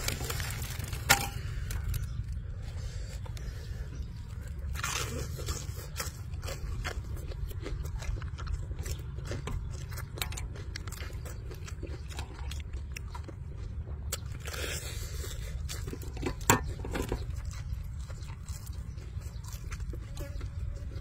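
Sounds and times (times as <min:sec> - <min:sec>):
crunchy chewing of fried chicken: 0:00.0 - 0:21.0.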